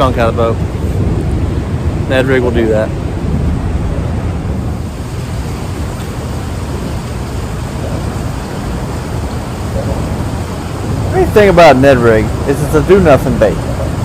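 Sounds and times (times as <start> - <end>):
wind blowing on microphone: 0.0 - 14.0.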